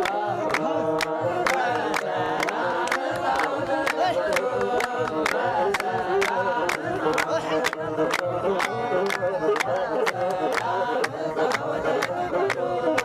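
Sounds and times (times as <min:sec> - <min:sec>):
group of voices chanting: 0:00.0 - 0:13.0.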